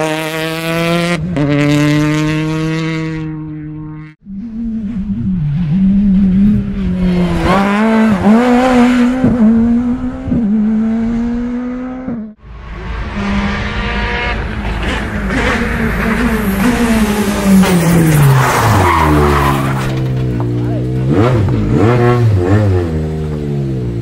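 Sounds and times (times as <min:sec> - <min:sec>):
approaching rally car engine: 0:00.0 - 0:24.0
rally car engine revving: 0:00.0 - 0:24.0.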